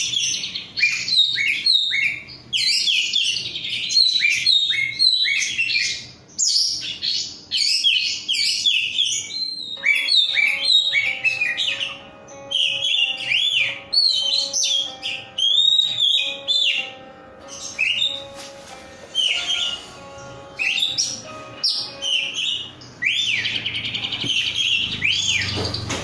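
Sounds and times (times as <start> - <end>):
bird singing whistled phrases: 0.0 - 16.9, 20.6 - 25.6
faint steady background tones: 0.0 - 26.0.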